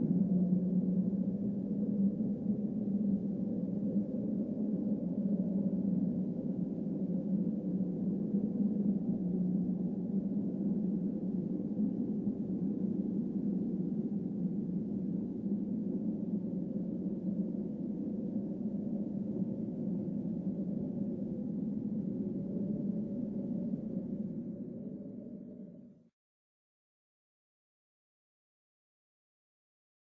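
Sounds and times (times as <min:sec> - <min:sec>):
low humming drone: 0:00.0 - 0:25.9.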